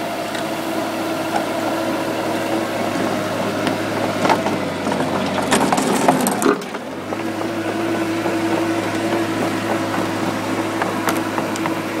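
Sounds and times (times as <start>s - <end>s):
bulldozer engine running: 0.0s - 12.0s.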